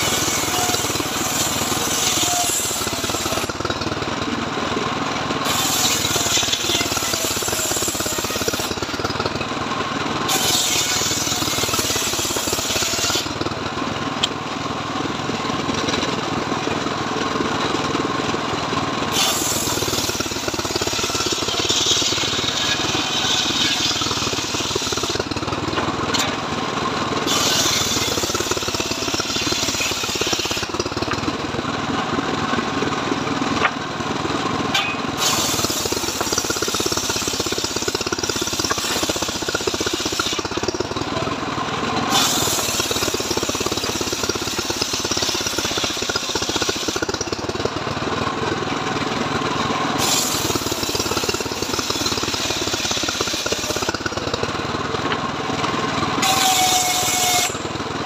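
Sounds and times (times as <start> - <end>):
saw blade cutting log: 0.0 - 31.4, 34.6 - 48.0, 49.0 - 58.0
engine running: 0.0 - 58.0.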